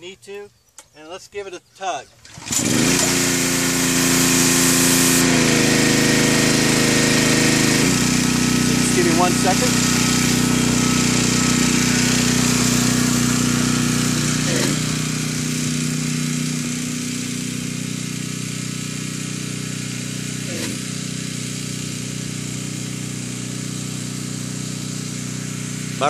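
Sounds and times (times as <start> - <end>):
pressure washer engine running: 2.2 - 26.0.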